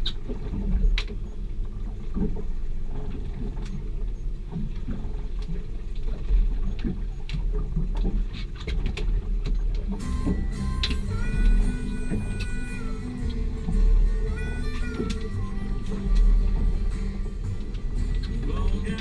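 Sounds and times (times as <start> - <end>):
boat rumbling on water: 0.0 - 19.0.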